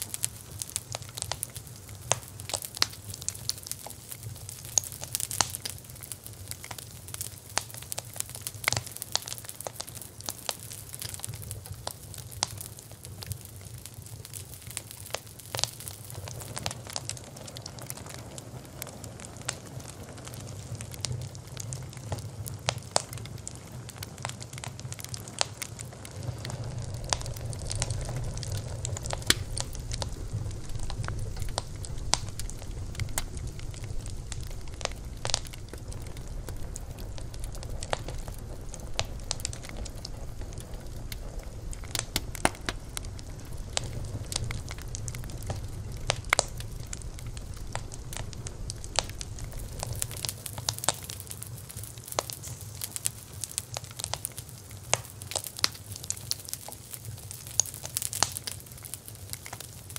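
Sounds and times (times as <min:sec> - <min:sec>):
bonfire crackling: 0:00.0 - 0:59.9.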